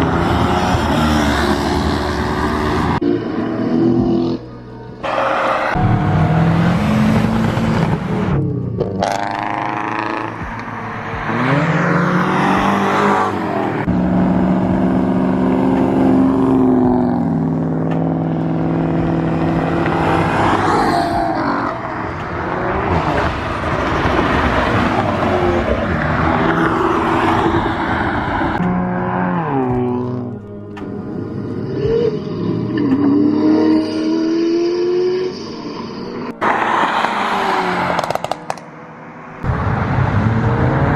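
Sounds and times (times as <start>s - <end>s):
car engines accelerating: 0.0s - 40.9s.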